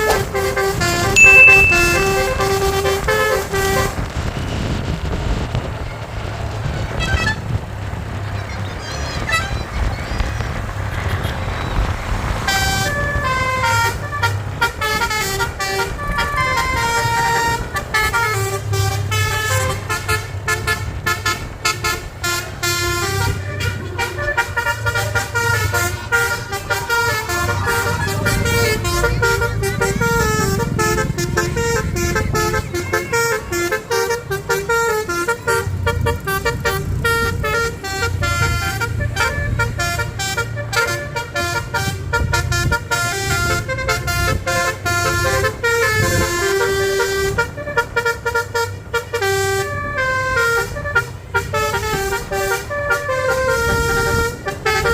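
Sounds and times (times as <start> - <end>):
multi-tone air horn melody: 0.0 - 4.2, 12.5 - 54.9
engine rumble: 0.0 - 54.9.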